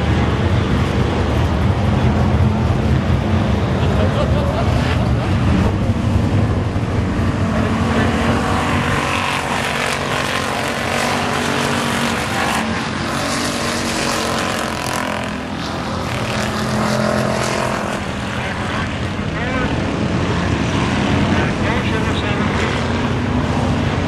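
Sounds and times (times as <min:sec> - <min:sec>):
race car engines at speed: 0:00.0 - 0:24.0.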